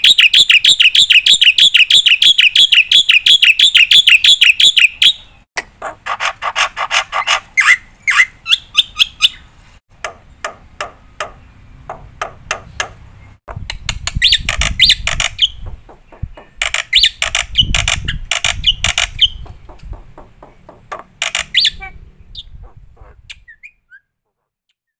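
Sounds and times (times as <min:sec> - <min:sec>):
bird chattering and squawking: 0:00.0 - 0:09.5, 0:12.2 - 0:24.1.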